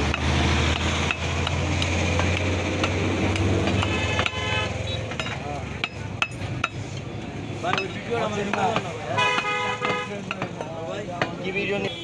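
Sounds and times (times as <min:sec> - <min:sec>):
cleaver chopping on wooden block: 0:00.0 - 0:04.4, 0:05.1 - 0:06.8, 0:07.7 - 0:11.4
low engine and traffic rumble: 0:00.0 - 0:12.0.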